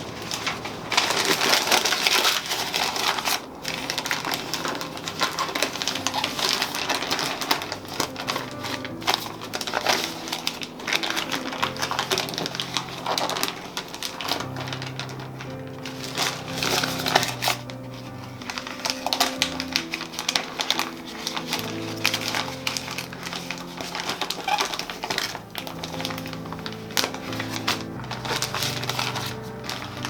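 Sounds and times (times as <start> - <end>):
rustling and clicking: 0.0 - 30.0
soft background music: 0.0 - 30.0.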